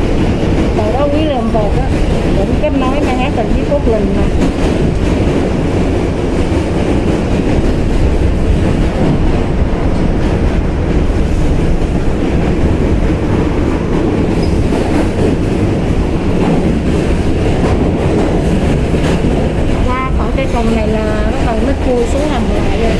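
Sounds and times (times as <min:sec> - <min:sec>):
subway train wheels rumbling on rails: 0:00.0 - 0:22.9.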